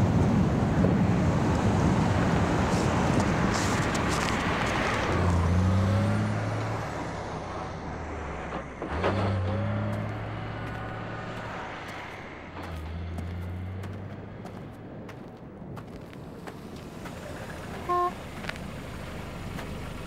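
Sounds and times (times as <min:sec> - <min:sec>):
truck passing by: 0:00.0 - 0:20.0.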